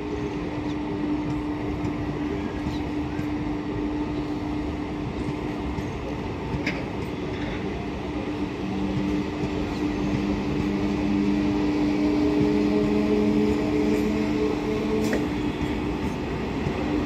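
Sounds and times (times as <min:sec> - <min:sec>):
electric train humming: 0:00.0 - 0:17.0.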